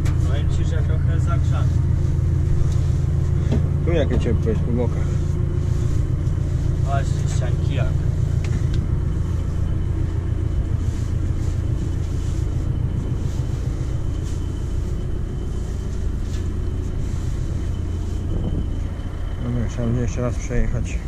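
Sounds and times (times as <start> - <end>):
tractor and baler rumbling: 0.0 - 21.0.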